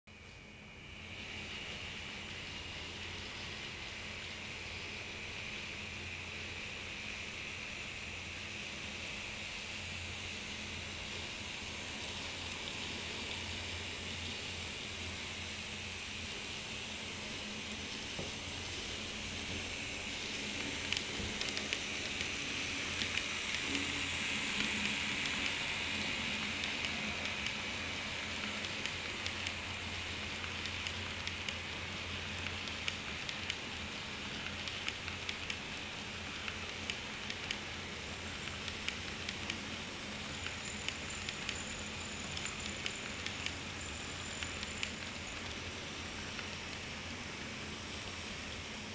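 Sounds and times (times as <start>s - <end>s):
model train whirring hiss: 0.2s - 48.9s.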